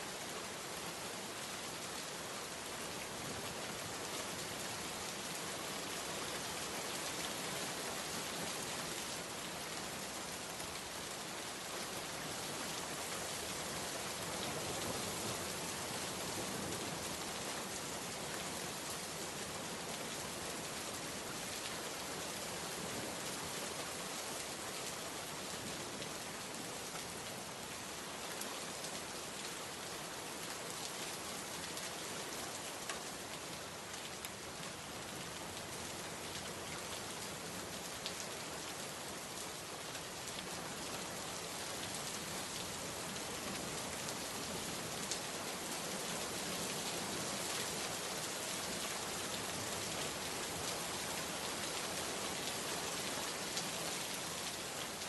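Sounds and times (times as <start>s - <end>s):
heavy rain falling: 0.4s - 21.6s, 22.2s - 55.0s.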